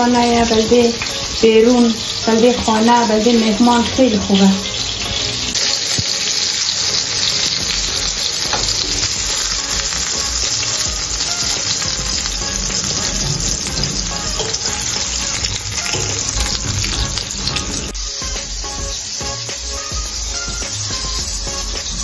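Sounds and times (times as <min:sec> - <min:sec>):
patties sizzling in oil: 0:00.0 - 0:22.0.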